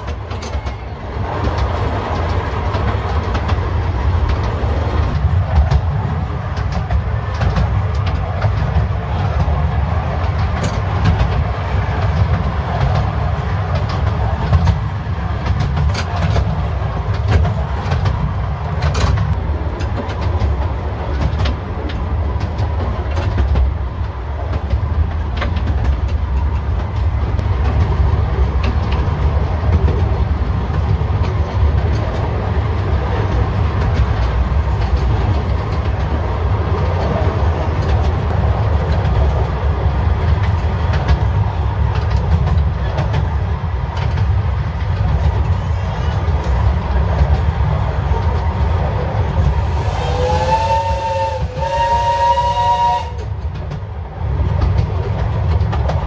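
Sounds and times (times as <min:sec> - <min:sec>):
wheel and bodywork clicks and rattles: 0:00.0 - 0:48.6
railway carriage rumbling on track: 0:00.0 - 0:56.0.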